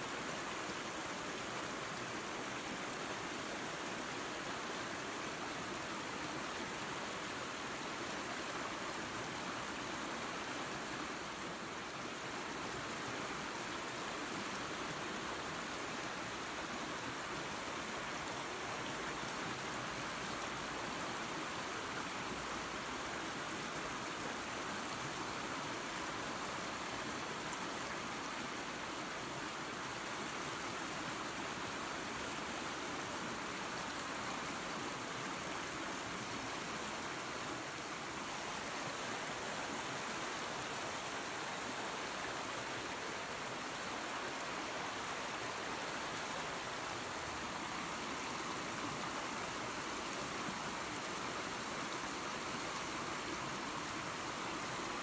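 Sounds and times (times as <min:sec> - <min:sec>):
creek and waterfall rushing: 0:00.0 - 0:55.0.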